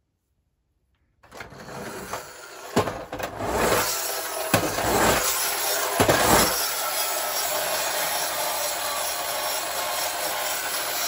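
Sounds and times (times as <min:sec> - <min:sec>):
toy car friction gear whirring: 0:01.2 - 0:11.0.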